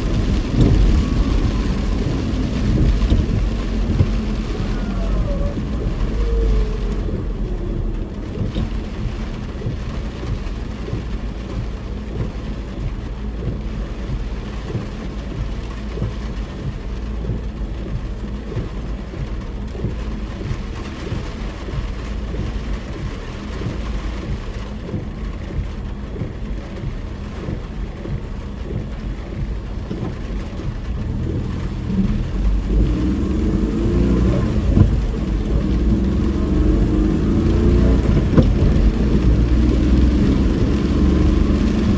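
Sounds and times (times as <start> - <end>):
car engine: 0.0 - 41.9
rain ticking on car body: 0.0 - 41.9
tyres on wet road: 0.0 - 41.9.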